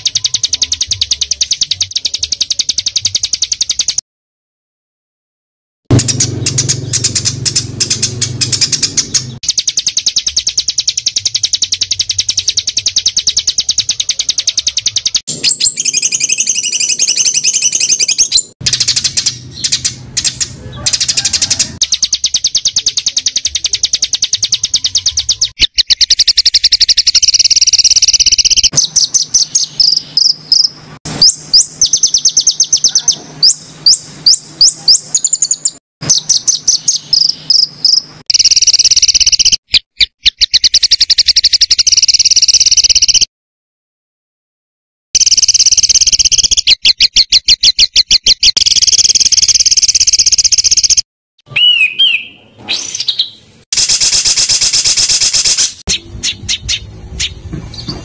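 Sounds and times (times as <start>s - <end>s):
songbirds high-pitched trills: 0.0s - 4.0s, 5.9s - 43.3s, 45.2s - 58.0s.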